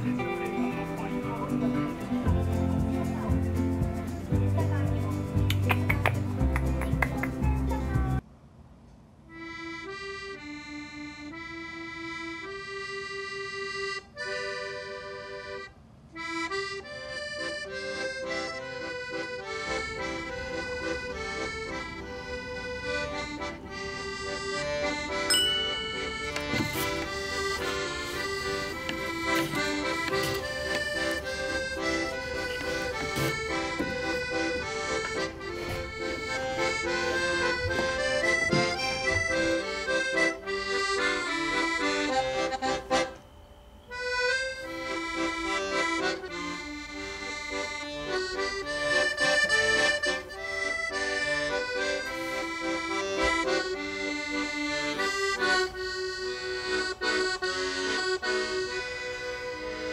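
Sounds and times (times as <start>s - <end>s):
solo accordion tune: 0.0s - 5.6s, 9.3s - 59.9s.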